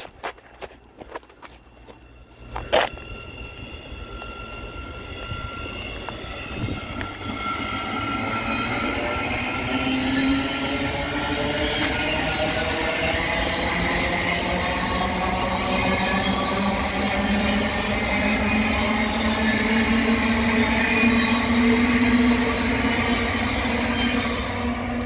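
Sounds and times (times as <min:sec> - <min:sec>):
electric train whine: 0:00.0 - 0:25.0
train wheels rumbling on rails: 0:00.0 - 0:25.0.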